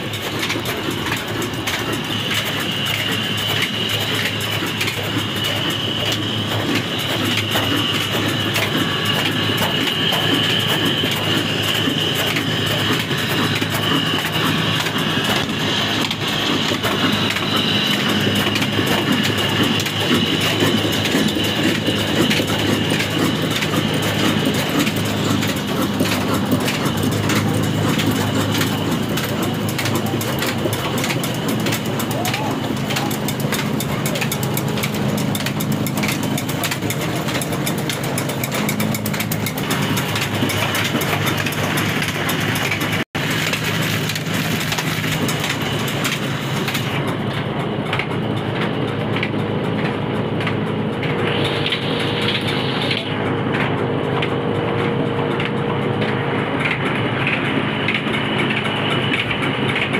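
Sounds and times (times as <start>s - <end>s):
diesel engine running: 0.0s - 59.9s
high whine: 0.0s - 59.9s.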